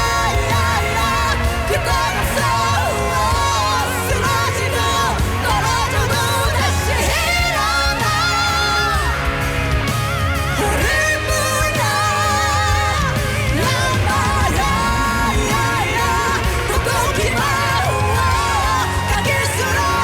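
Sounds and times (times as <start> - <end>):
band with heavy bass: 0.0 - 20.0
person singing pop ballad: 0.0 - 20.0.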